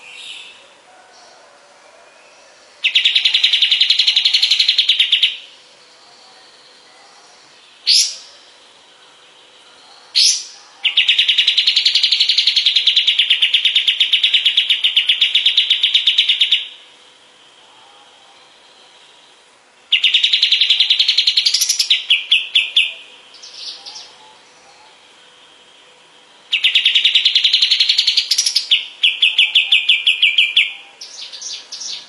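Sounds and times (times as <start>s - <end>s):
bird singing rapid trills: 2.2s - 32.0s.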